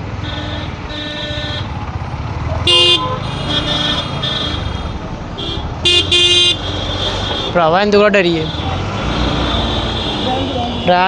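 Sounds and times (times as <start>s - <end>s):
vehicle horns honking: 0.0s - 1.8s, 2.6s - 11.0s
motorcycle engine rumble: 0.0s - 10.8s
road noise: 0.0s - 11.0s.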